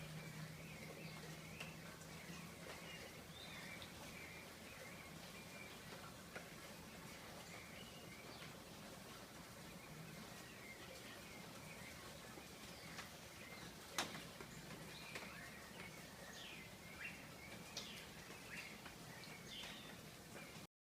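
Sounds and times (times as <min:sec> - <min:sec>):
background hiss: 0:00.0 - 0:20.7
birds chirping: 0:00.0 - 0:20.7.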